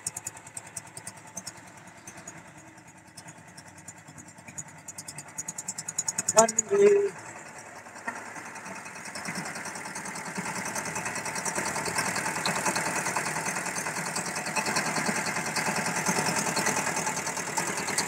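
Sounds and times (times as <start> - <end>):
concrete mixer engine chugging: 0.0 - 18.0.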